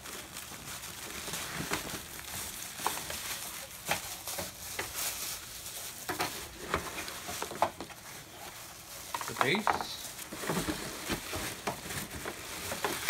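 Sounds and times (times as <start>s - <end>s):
plastic and paper wrapping rustling: 0.0s - 13.0s.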